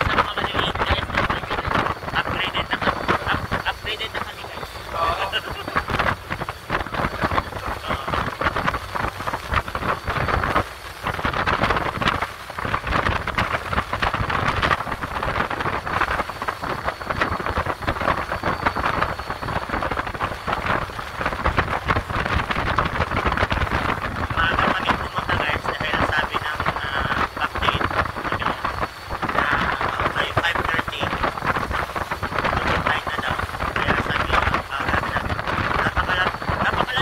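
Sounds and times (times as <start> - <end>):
boat water noise: 0.0 - 37.0
rushing wind: 0.0 - 37.0
wind buffeting microphone: 0.0 - 37.0.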